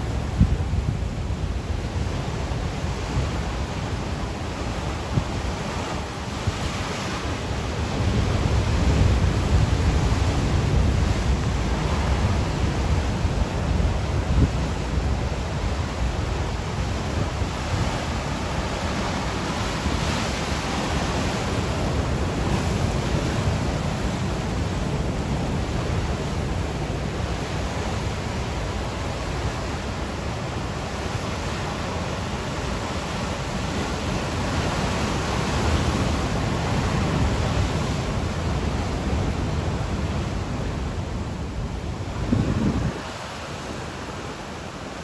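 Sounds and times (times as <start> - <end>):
ocean surf washing onto shore: 0.0 - 45.0.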